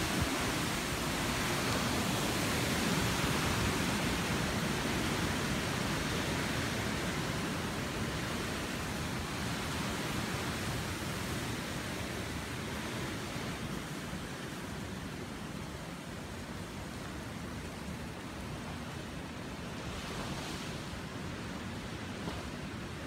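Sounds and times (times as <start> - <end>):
wind gusting through trees: 0.0 - 23.0.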